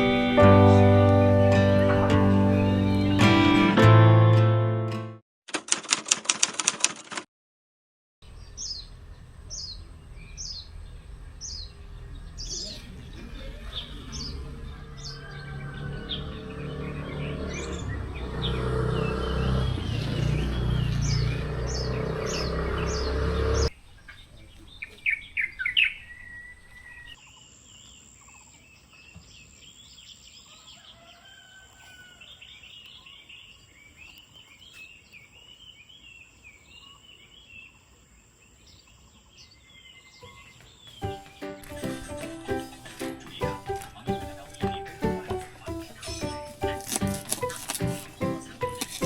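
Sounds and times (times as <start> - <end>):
birds chirping and trilling: 1.4 - 3.6, 8.2 - 49.0.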